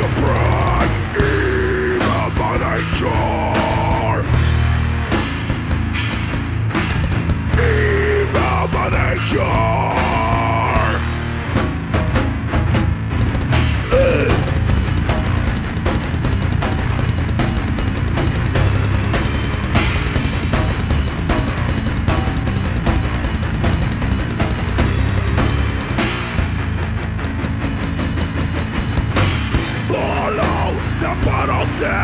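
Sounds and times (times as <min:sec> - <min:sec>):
bass guitar: 0:00.0 - 0:32.0
distorted electric guitars: 0:00.0 - 0:32.0
drum kit pounding: 0:00.0 - 0:32.0.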